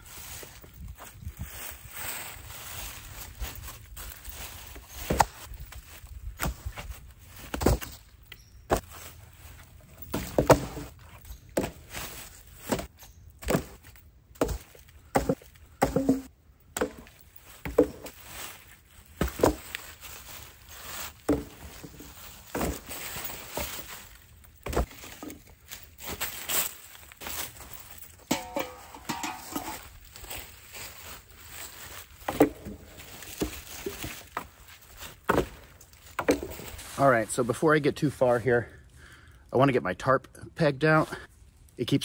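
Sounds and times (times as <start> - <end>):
footsteps in dry leaves: 0.0 - 38.4
dead branches knocking and clattering: 2.8 - 36.9.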